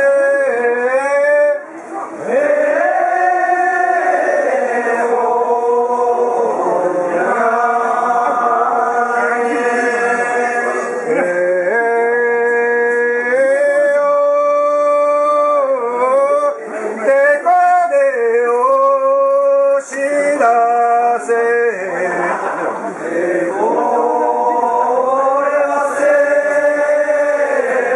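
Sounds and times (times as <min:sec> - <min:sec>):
men chanting: 0:00.0 - 0:27.9.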